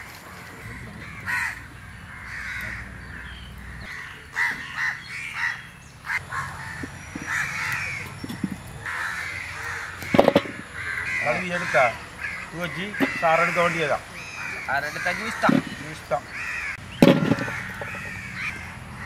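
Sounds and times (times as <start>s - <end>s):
crows cawing: 0.0s - 19.0s.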